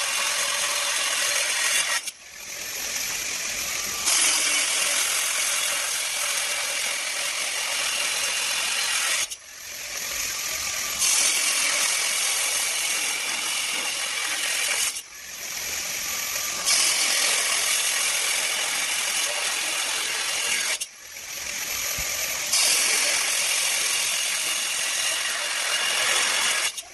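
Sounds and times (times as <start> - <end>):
angle grinder cutting steel: 0.0 - 26.9.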